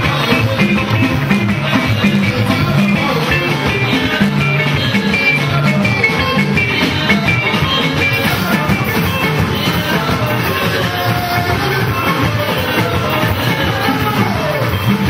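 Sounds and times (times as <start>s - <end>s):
bass line: 0.0s - 15.0s
drum kit: 0.0s - 15.0s
electric guitar lines: 0.0s - 15.0s.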